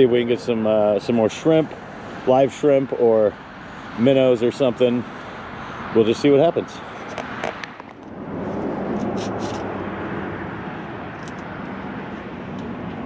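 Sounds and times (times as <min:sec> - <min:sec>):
vehicle passing rumble: 0:00.0 - 0:13.0.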